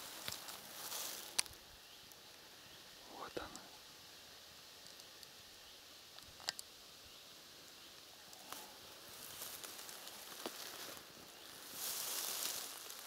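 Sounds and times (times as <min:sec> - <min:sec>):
rustling in dry grass: 0:00.0 - 0:03.3, 0:03.9 - 0:13.0.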